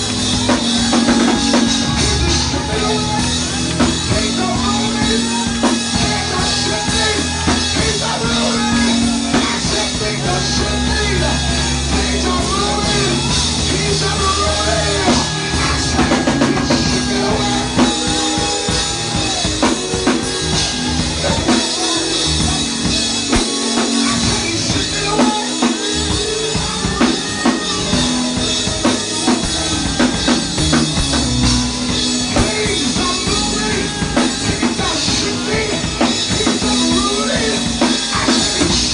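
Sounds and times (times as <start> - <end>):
church band music: 0.0 - 38.9
drum kit: 0.0 - 38.9
sustained bass notes: 0.0 - 38.9.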